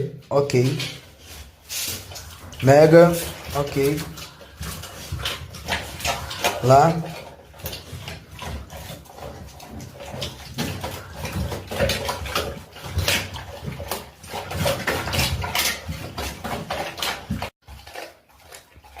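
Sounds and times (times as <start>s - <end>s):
dog chewing and gnawing: 1.0s - 19.0s.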